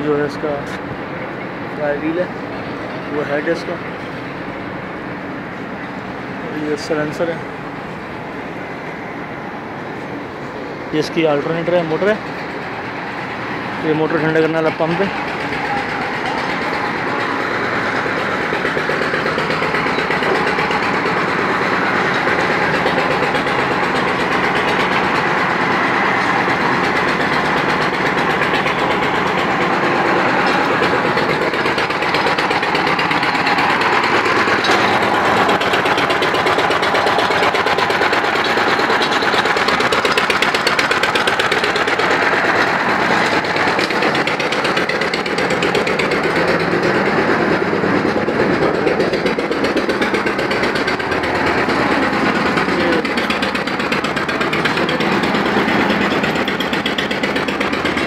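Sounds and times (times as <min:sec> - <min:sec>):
diesel engine clattering: 0:00.0 - 0:58.0.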